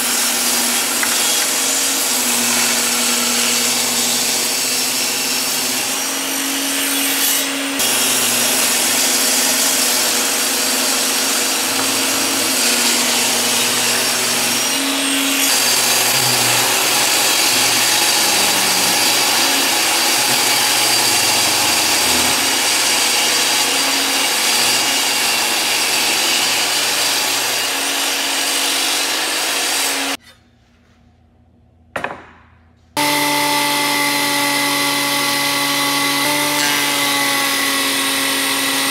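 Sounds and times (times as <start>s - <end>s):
table saw ripping a board: 0.0s - 30.2s, 33.0s - 38.9s
thickness planer humming: 0.0s - 30.2s, 33.0s - 38.9s.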